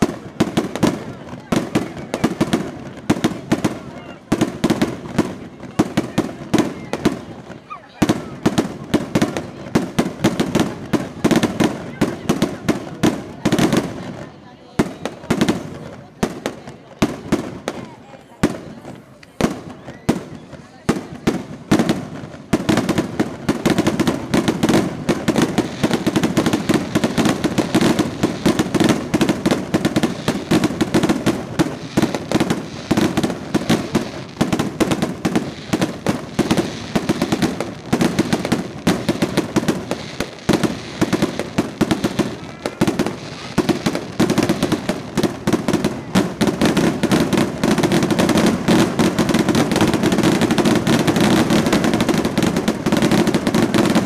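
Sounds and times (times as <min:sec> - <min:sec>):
fireworks cracking and banging: 0:00.0 - 0:54.0.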